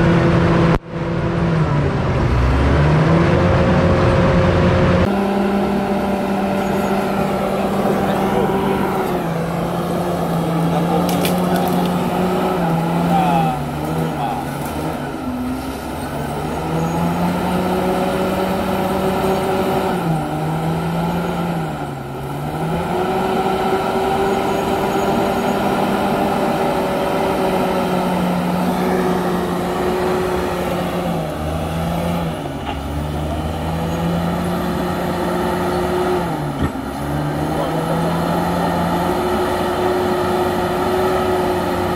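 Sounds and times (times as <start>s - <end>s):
bulldozer diesel engine labouring: 0.0s - 41.9s.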